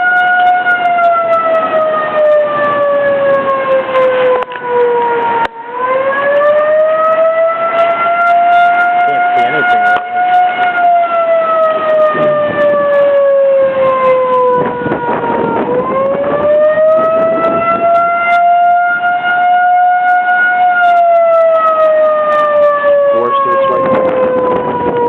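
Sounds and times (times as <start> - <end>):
tornado warning siren: 0.0 - 25.0.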